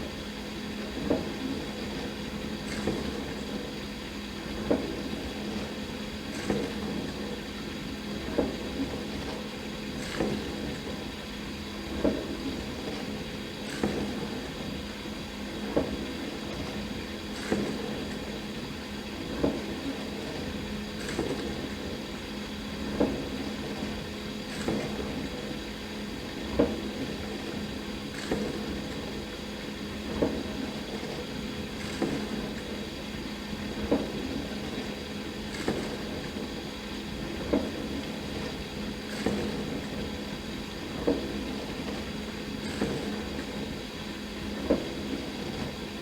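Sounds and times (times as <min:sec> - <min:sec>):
dishwasher pump hum and spray: 0:00.0 - 0:46.0.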